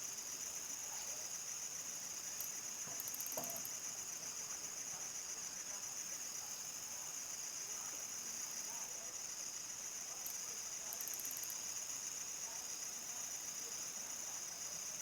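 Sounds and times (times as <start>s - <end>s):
crickets chirring chorus: 0.0s - 15.0s.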